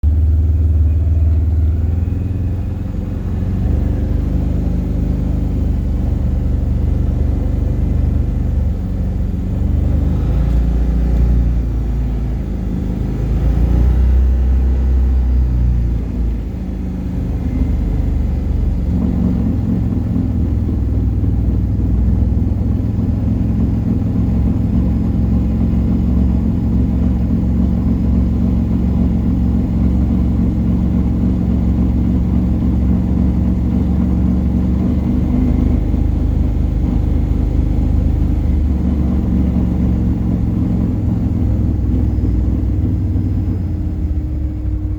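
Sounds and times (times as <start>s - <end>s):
vehicle engine low drone: 0.0s - 44.9s.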